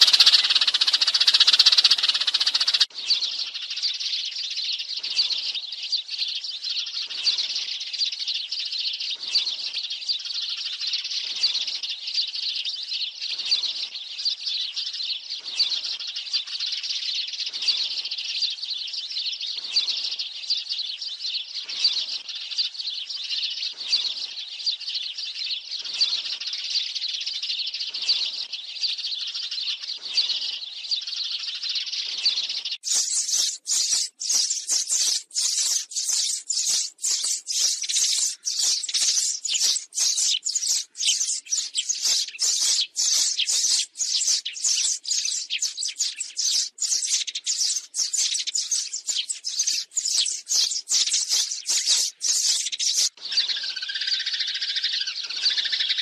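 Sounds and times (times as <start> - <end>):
flock of sparrows chirping: 0.0 - 56.0.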